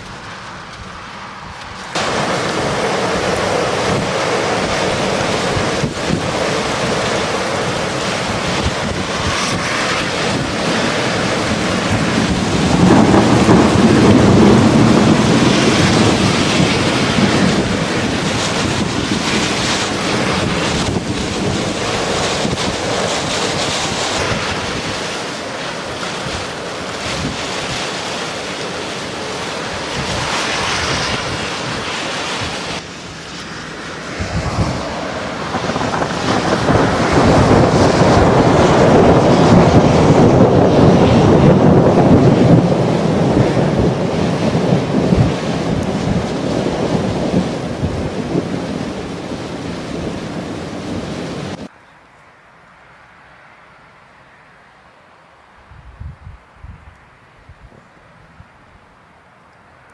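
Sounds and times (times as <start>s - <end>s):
storm wind buffeting microphone: 0.0s - 51.7s, 55.6s - 59.0s.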